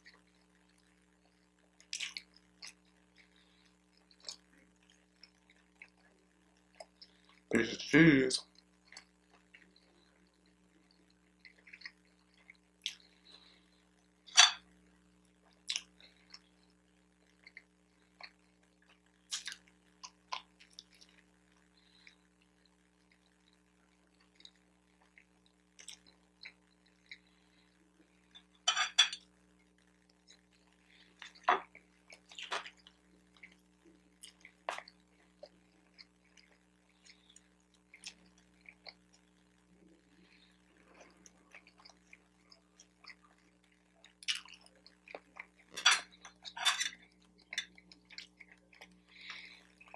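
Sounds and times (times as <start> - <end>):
close chewing with mouth clicks: 0.0 - 7.5, 8.4 - 14.2, 15.4 - 28.5, 30.1 - 49.9
faint steady hum: 0.0 - 49.9.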